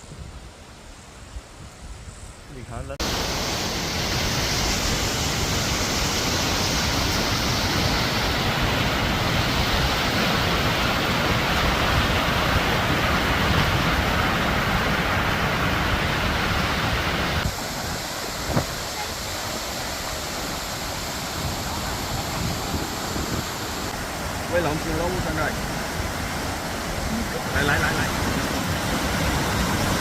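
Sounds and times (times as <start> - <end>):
waterfall rushing: 3.0 - 30.0.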